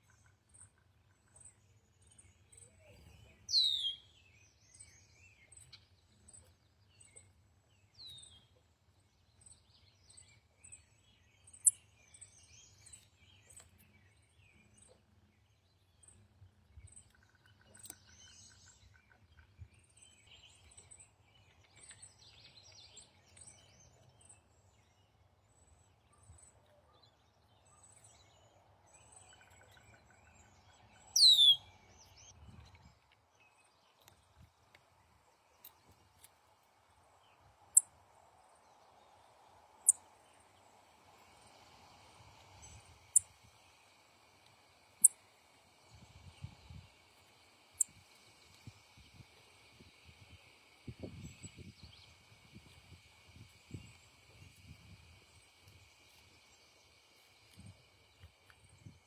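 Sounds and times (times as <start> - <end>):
soft bird chirps: 0.0 - 59.0.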